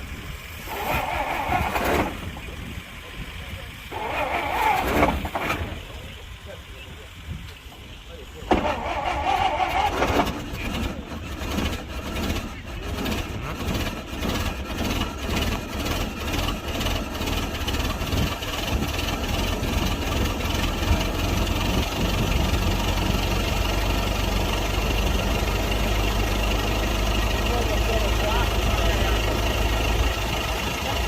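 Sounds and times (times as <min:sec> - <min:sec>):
old engine chugging and idling: 0:00.0 - 0:31.0.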